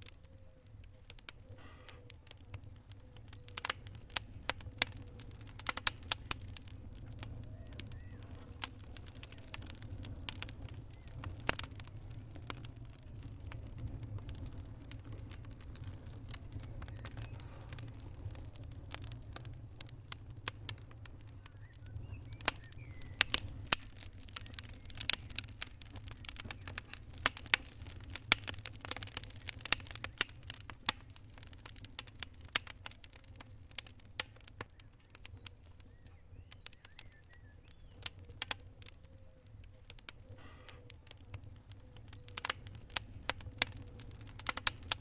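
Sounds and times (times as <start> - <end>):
sharp pops and snaps: 0.0 - 45.0
wood fire crackling: 0.0 - 45.0.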